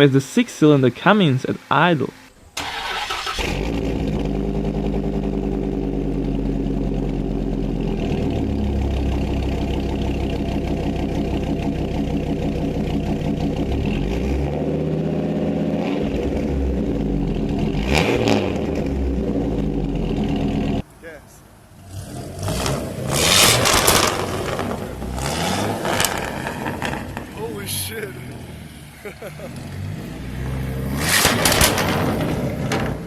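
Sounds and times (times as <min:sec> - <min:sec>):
car engine idling and revving: 0:02.1 - 0:20.8, 0:21.6 - 0:33.0.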